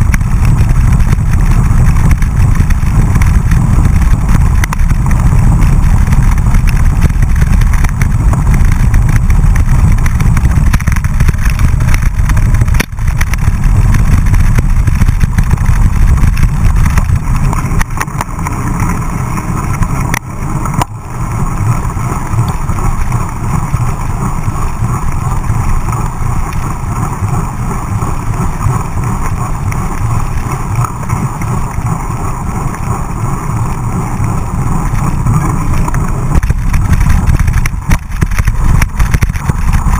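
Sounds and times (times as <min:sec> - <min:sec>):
tyre noise on wet road: 0:00.0 - 0:39.9
wind buffeting microphone: 0:00.0 - 0:39.9.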